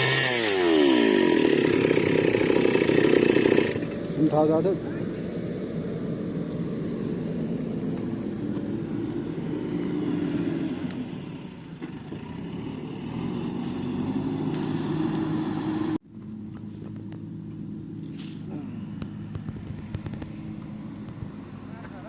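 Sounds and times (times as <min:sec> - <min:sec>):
engine running: 0:00.0 - 0:22.0
quieter engine sound: 0:01.3 - 0:22.0.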